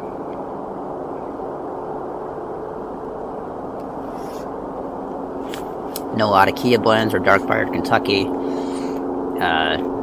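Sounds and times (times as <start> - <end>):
background rumble: 0.0 - 10.0
faint mechanical hum: 0.0 - 10.0.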